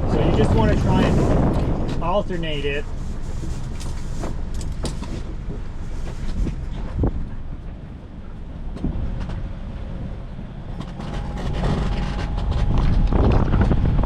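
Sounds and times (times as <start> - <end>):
sail knocks and rustles: 0.0 - 14.0
wind buffeting microphone: 0.0 - 14.0.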